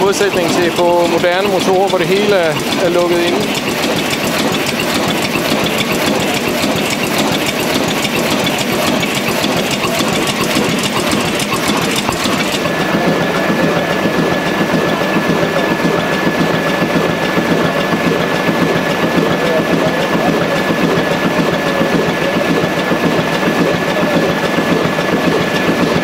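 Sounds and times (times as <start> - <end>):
diesel engine idling: 0.0 - 26.0
valve gear clattering: 0.0 - 26.0.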